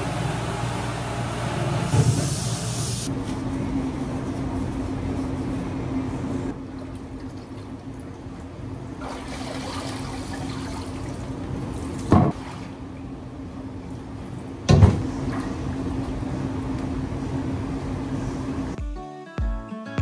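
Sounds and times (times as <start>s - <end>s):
steady hum: 0.0s - 18.8s.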